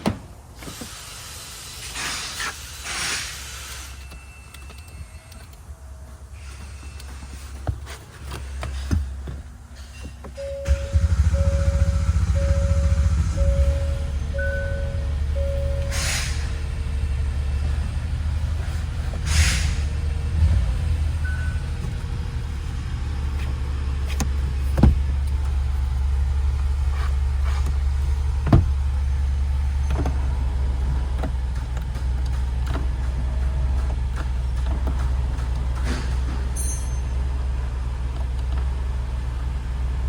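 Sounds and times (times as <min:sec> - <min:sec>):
vehicle engine idling: 0:05.6 - 0:40.0.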